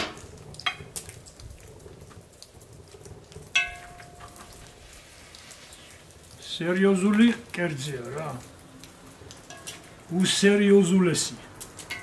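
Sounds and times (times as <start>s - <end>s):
food crackling in a pot: 0.0s - 12.0s.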